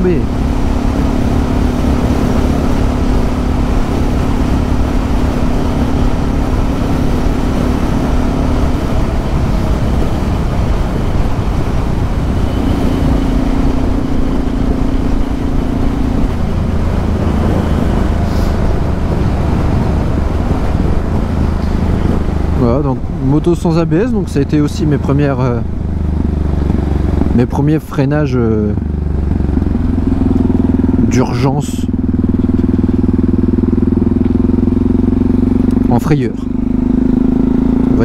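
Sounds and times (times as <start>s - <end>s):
motorcycle engine running: 0.0s - 38.0s
wind rush on microphone: 0.0s - 38.0s.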